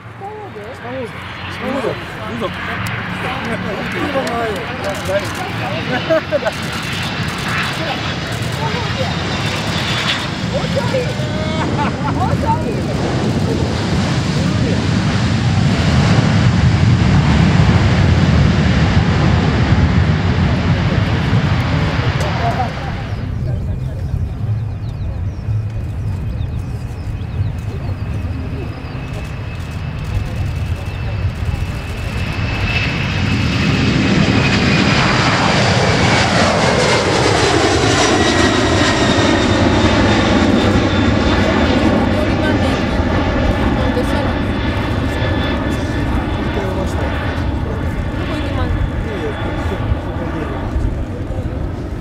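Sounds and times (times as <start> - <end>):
jet engines roaring: 0.0 - 52.0.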